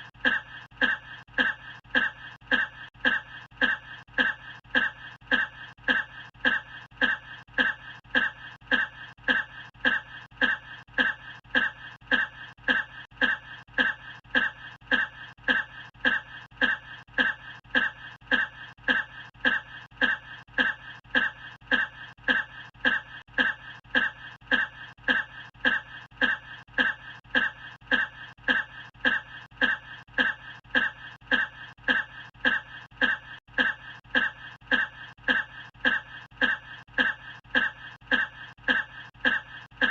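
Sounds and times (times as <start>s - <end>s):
man coughing: 0.0s - 39.9s.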